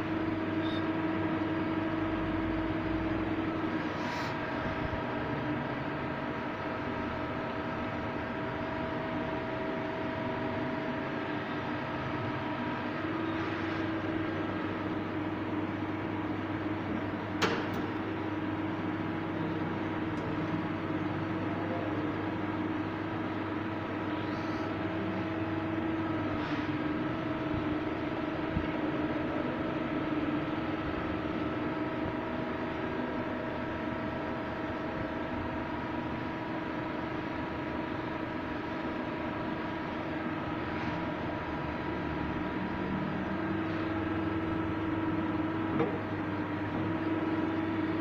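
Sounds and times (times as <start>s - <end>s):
lathe machine hum: 0.0s - 48.0s.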